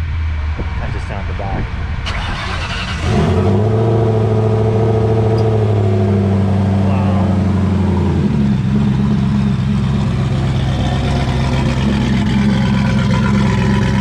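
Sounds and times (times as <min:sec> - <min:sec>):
car engine idling loudly: 0:02.0 - 0:14.0.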